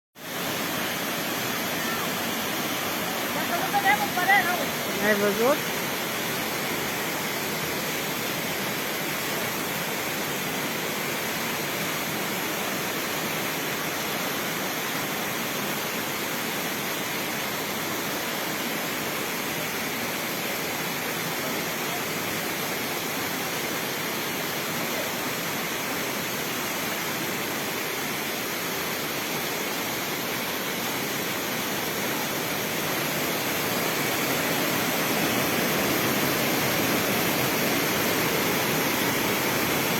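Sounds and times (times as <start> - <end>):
waterfall rushing: 0.2 - 39.9.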